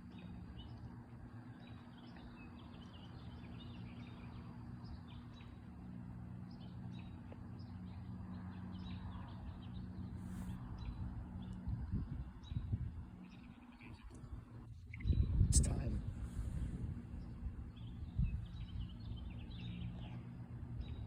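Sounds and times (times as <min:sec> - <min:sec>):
faint low hum: 0:00.0 - 0:21.0
small birds chirping: 0:00.0 - 0:21.0.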